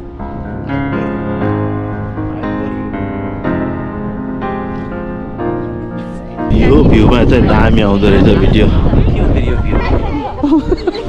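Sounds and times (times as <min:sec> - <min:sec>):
piano playing sustained chords: 0:00.0 - 0:11.0.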